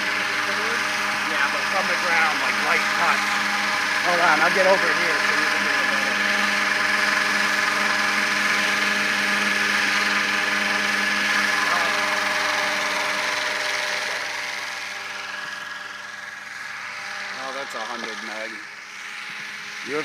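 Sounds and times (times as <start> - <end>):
model helicopter whining: 0.0 - 20.0.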